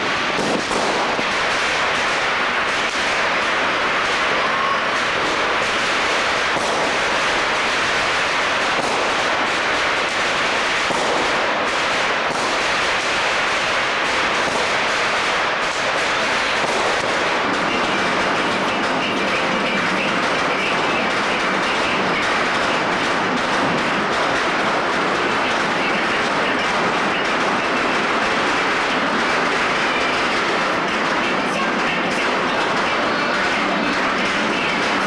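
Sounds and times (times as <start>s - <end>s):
firecrackers crackling: 0.0s - 35.0s.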